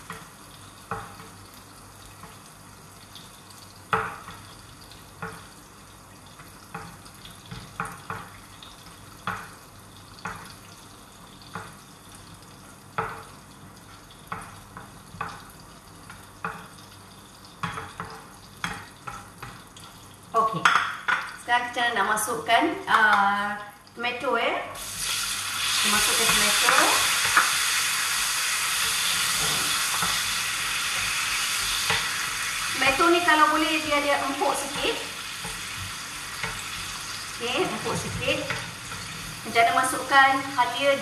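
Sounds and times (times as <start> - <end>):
food sizzling in oil: 0.0 - 41.0.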